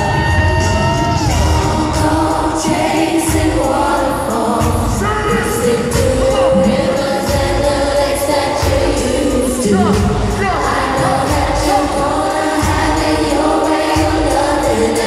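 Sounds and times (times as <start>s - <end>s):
band playing steady beat: 0.0s - 15.0s
crowd noise: 0.0s - 15.0s
voices singing: 0.0s - 15.0s.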